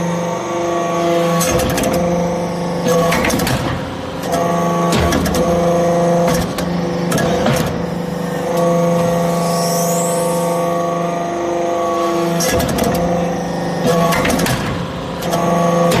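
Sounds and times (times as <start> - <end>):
hydraulic press humming: 0.0 - 16.0.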